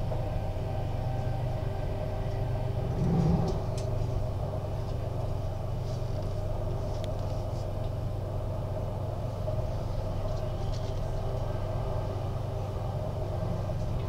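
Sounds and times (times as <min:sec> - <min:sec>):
train low rumble: 0:00.0 - 0:14.0
train mid-pitched whine: 0:00.0 - 0:14.0.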